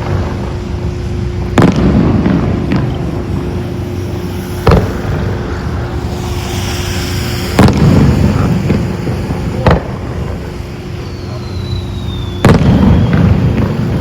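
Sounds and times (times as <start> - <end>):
crackle of sparks: 0.0 - 14.0
fireworks booming: 0.0 - 14.0.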